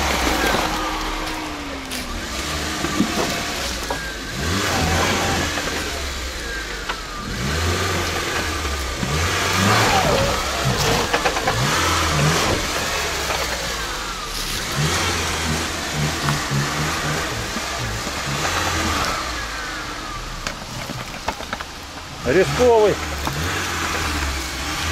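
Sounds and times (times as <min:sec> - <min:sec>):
car engine revving unevenly: 0:00.0 - 0:24.9.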